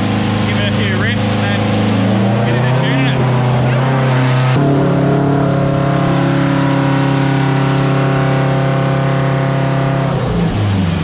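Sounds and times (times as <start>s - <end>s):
car engine holding steady revs: 0.0s - 11.0s.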